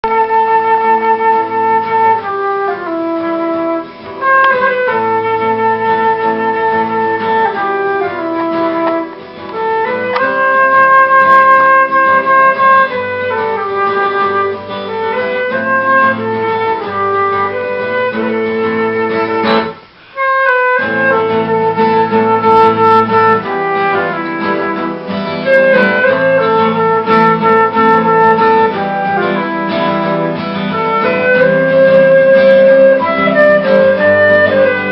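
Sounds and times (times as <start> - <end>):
acoustic guitar: 0.0 - 34.9
wind instrument melody: 0.0 - 34.9.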